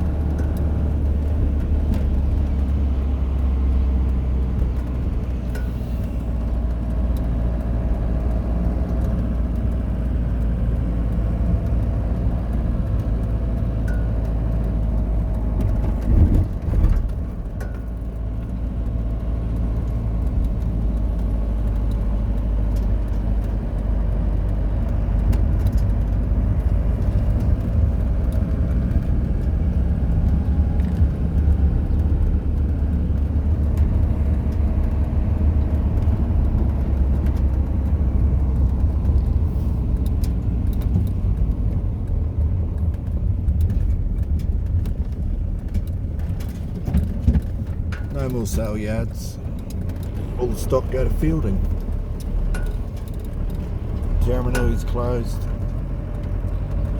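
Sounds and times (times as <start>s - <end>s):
vehicle engine rumble: 0.0s - 56.9s.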